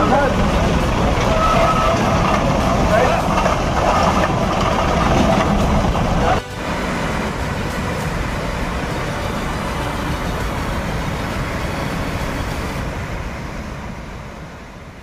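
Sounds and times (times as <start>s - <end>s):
floodwater rushing over bridge: 0.0s - 15.0s.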